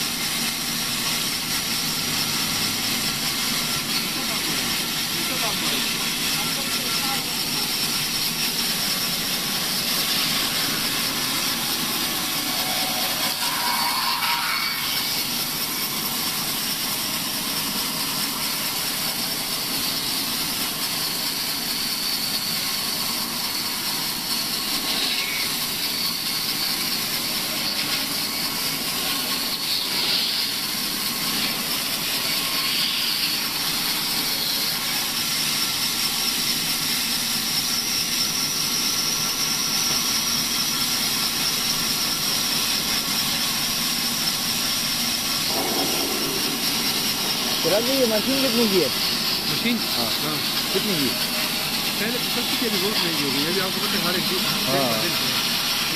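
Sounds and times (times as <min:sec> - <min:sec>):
steady high whine: 0:00.0 - 0:55.9.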